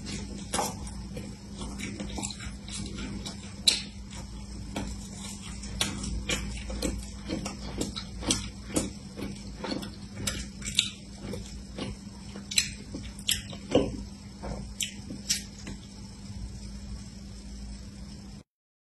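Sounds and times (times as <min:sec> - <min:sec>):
chewing: 0:00.0 - 0:15.9.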